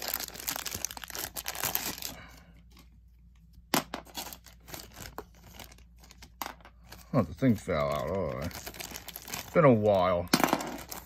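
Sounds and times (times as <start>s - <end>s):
plastic bags crinkling: 0.0s - 2.4s, 4.1s - 11.0s.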